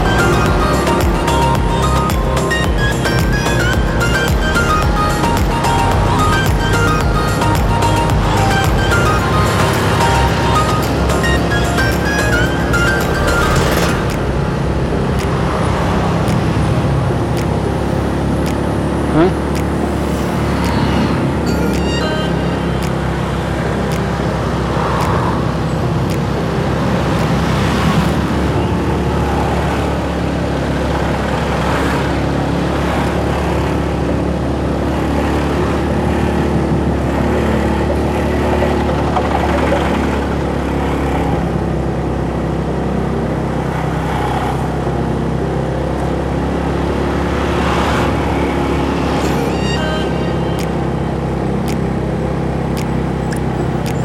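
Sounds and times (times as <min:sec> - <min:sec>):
traffic road noise: 0:00.0 - 0:54.0.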